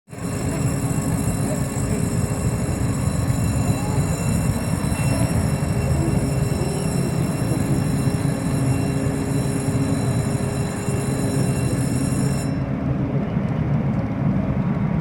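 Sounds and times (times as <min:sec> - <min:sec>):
ship engines rumbling: 0:00.1 - 0:13.3.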